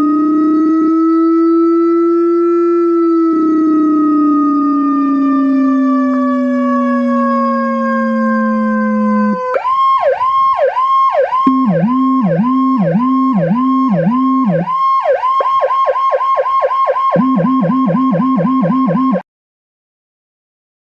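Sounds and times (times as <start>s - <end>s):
ambulance siren: 0.0s - 19.2s
lower second siren tone: 0.0s - 19.2s.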